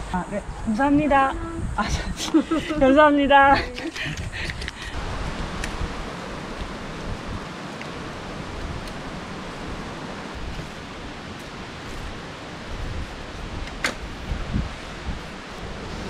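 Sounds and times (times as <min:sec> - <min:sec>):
steady outdoor rushing noise: 0:00.0 - 0:16.0.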